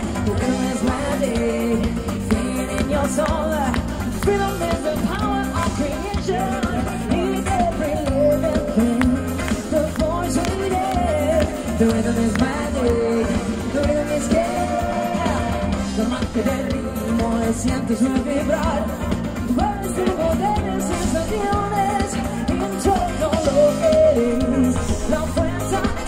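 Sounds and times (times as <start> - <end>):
band playing pop-rock song: 0.0 - 26.0
lead singer singing: 0.0 - 26.0.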